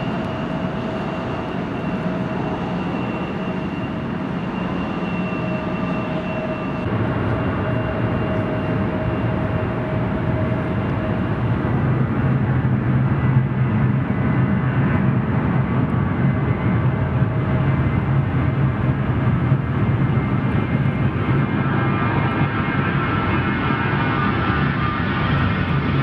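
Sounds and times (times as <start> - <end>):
airliner engine whine: 0.0 - 26.0.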